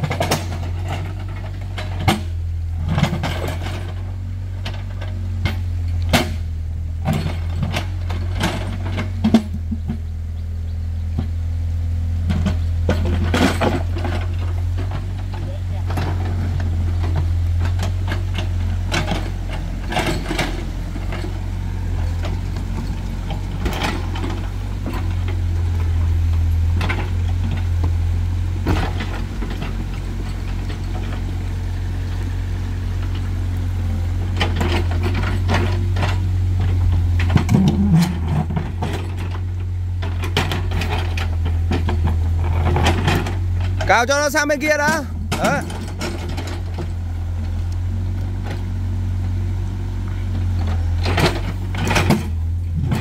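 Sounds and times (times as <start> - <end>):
bucket clanking and scraping rocks: 0.0 - 9.8, 12.3 - 48.8, 50.0 - 53.0
diesel engine running: 0.0 - 53.0.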